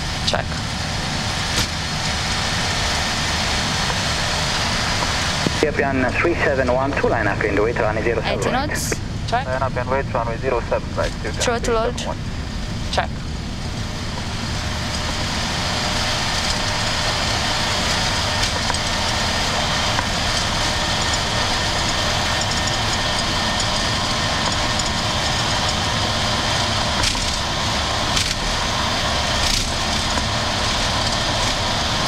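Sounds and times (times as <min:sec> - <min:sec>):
jet engines at takeoff thrust: 0:00.0 - 0:32.0.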